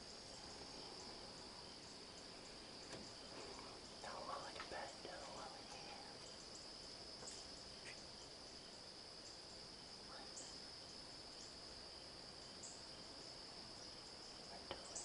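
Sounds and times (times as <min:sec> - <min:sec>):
night insects droning: 0:00.0 - 0:15.0.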